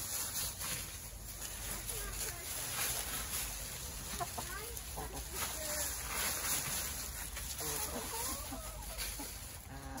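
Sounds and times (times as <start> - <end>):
dry leaves rustling: 0.0 - 10.0
hens clucking: 0.0 - 10.0.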